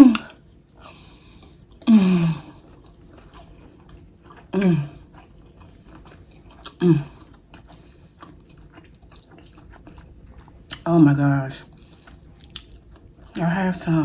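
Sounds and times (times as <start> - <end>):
chewing with wet mouth clicks: 0.1 - 10.9, 11.6 - 13.8.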